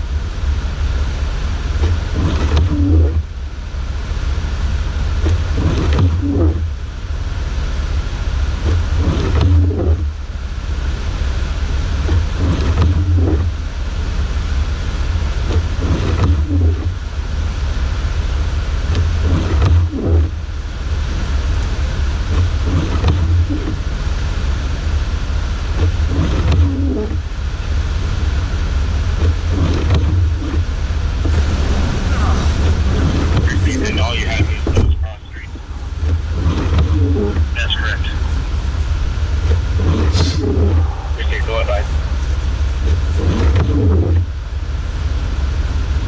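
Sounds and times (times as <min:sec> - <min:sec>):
engine and road rumble: 0:00.0 - 0:46.0.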